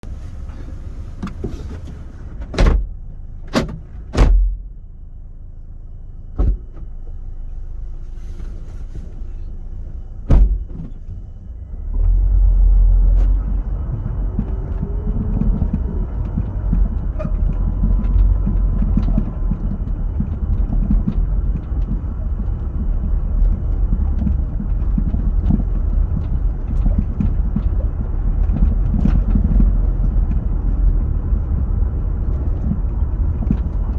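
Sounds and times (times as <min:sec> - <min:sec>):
car driving low rumble: 0:00.0 - 0:33.9.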